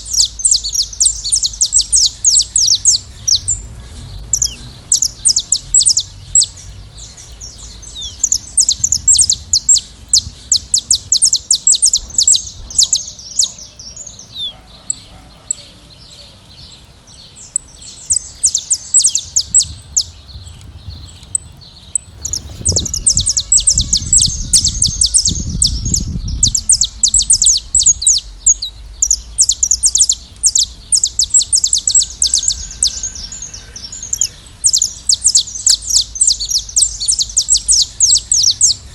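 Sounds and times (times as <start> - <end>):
low rumble: 0.0 - 14.5, 18.0 - 34.6
flock of finches chirping: 0.0 - 38.9.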